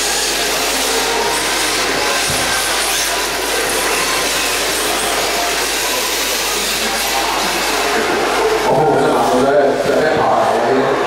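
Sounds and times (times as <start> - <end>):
rc car mechanical whirr: 0.0 - 9.4.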